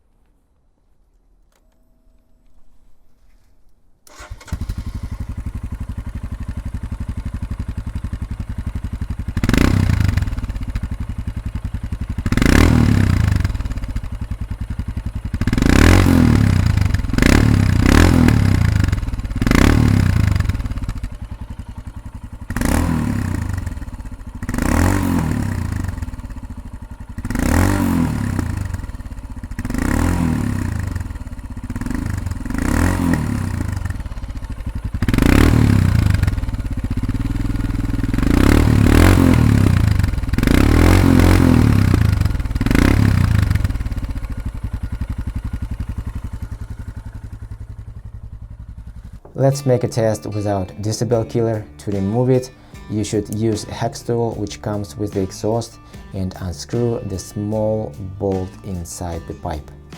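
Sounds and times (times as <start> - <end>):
motorcycle engine idling and revving: 4.1 - 59.9.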